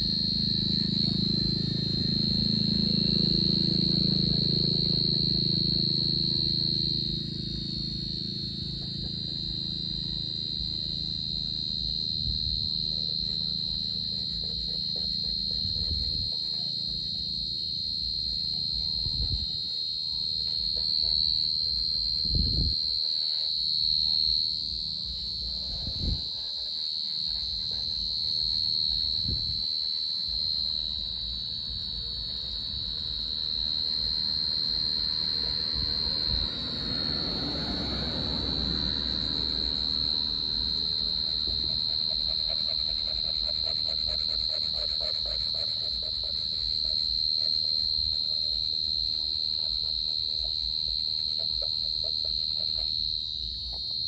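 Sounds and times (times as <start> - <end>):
cricket trilling: 0.0 - 54.0.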